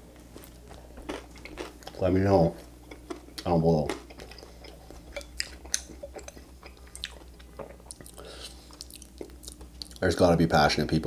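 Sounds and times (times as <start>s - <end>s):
person chewing soft food: 0.1s - 10.0s.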